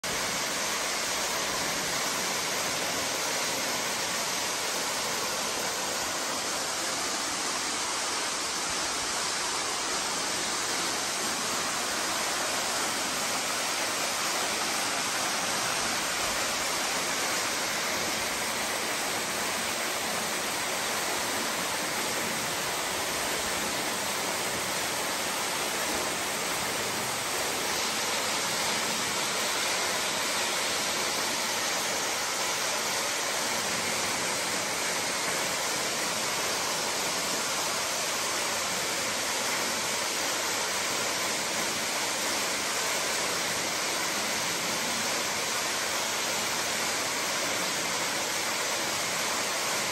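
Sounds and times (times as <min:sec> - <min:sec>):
waterfall splashing into pool: 0:00.0 - 0:49.9.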